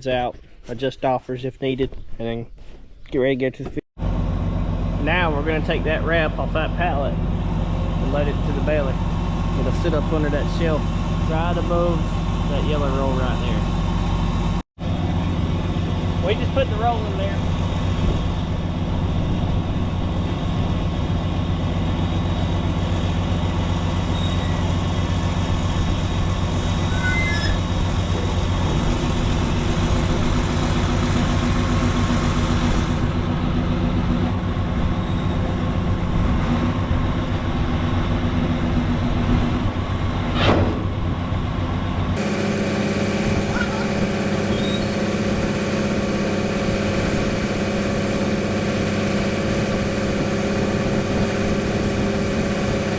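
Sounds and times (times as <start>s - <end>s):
diesel engine idling: 4.0s - 26.8s, 27.6s - 40.2s, 41.0s - 52.9s.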